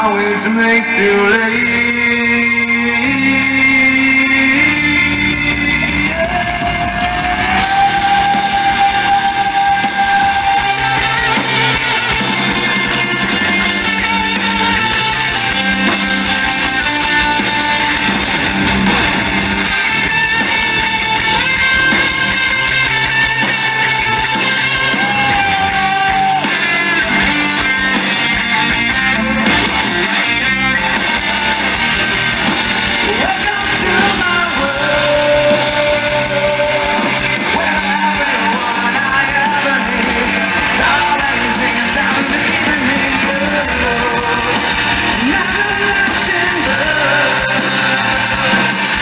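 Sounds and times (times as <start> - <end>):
bass guitar: 0.0 - 49.0
drums: 0.0 - 49.0
electric guitar: 0.0 - 49.0.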